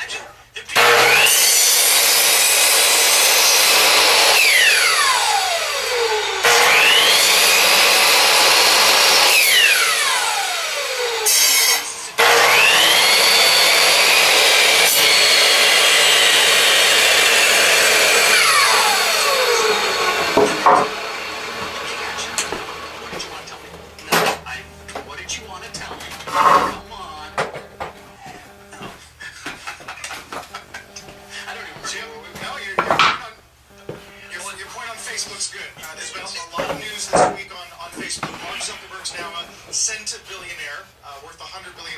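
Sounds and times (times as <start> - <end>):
miter saw cutting wood: 0.7 - 33.1, 33.7 - 40.0.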